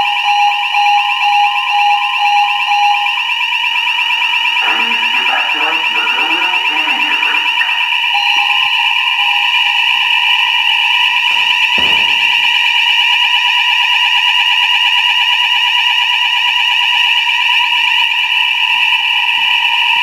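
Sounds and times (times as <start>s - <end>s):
fire alarm tone: 0.0s - 20.0s.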